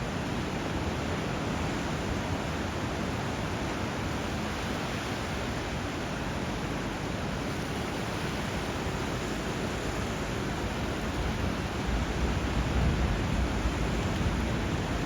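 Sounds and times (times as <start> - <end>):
rushing water and waves: 0.0 - 15.0.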